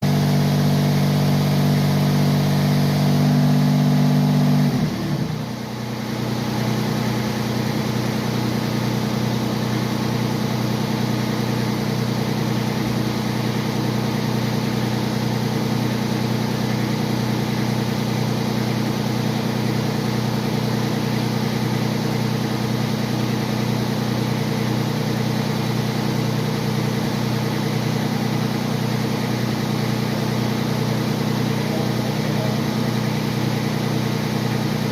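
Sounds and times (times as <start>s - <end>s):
mower engine running: 0.0s - 34.9s.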